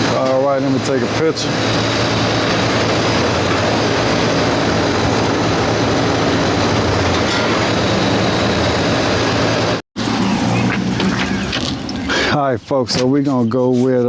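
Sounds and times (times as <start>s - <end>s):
compressor hum: 0.0s - 14.0s
condenser fan rushing: 0.0s - 14.0s.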